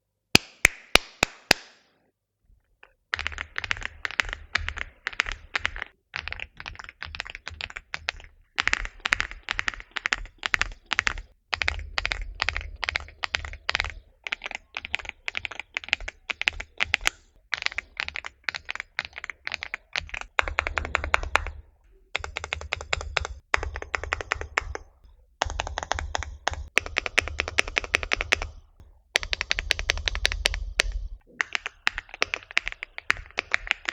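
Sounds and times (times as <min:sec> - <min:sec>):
mechanical keyboard typing: 0:02.8 - 0:33.9.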